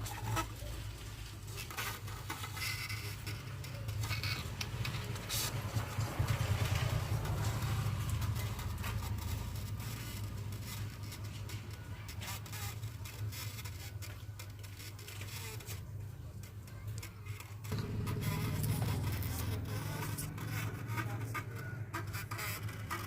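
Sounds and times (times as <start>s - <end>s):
buzzing rattly distorted music: 0.0s - 23.0s.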